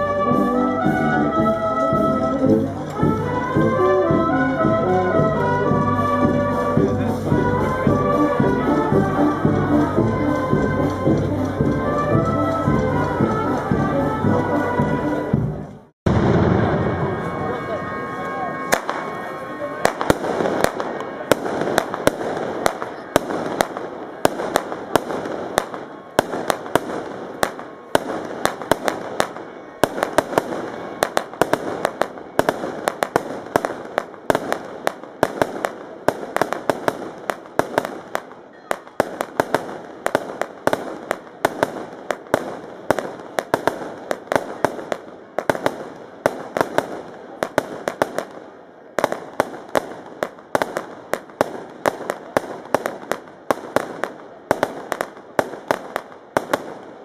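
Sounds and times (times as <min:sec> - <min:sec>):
firecrackers banging: 0:00.0 - 0:57.0.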